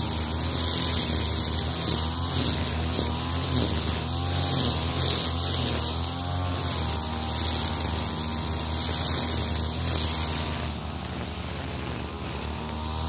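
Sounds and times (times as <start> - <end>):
brushcutter engine running: 0.0 - 13.0
trimmer line whipping grass: 0.0 - 13.0.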